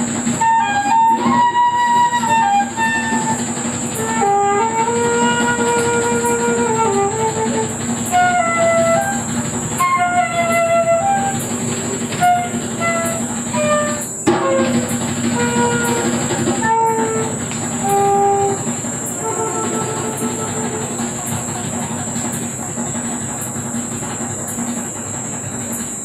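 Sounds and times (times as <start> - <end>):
concert flute melody: 0.0 - 22.5.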